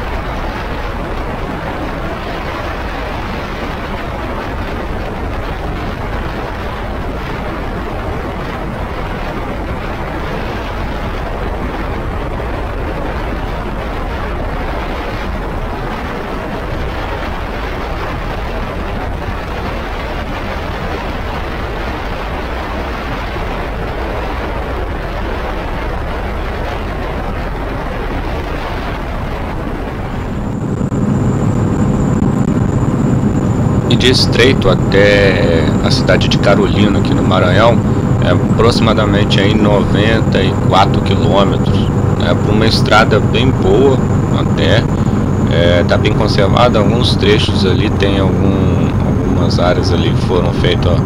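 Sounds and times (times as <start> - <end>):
road and wind noise: 0.0 - 51.0.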